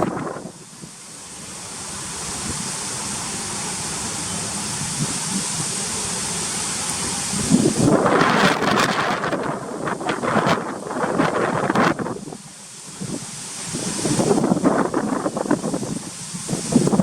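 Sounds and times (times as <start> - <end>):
typhoon wind and rain: 0.0 - 17.0.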